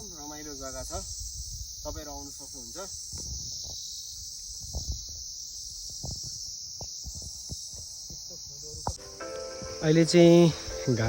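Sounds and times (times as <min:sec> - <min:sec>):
insect chorus chirring: 0:00.0 - 0:11.0.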